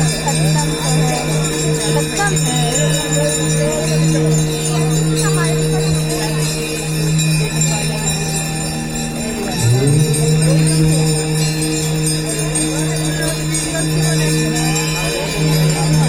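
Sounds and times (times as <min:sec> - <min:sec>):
jingling bells or tambourine: 0:00.0 - 0:16.0
music with long held notes: 0:00.0 - 0:16.0.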